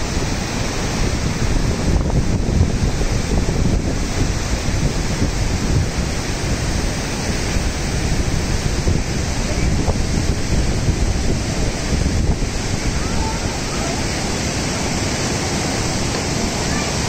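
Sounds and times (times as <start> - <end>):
river rushing over rocks: 0.0 - 17.0
wind buffeting microphone: 0.0 - 17.0.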